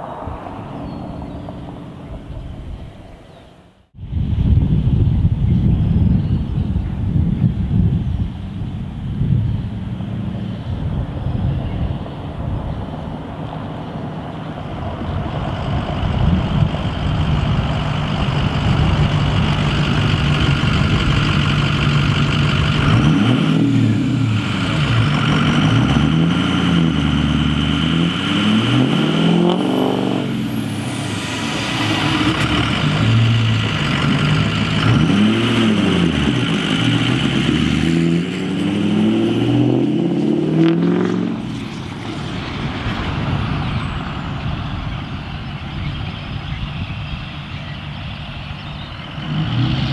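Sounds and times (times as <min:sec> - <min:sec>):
diesel truck driving past: 0:00.0 - 0:02.9, 0:12.0 - 0:49.9.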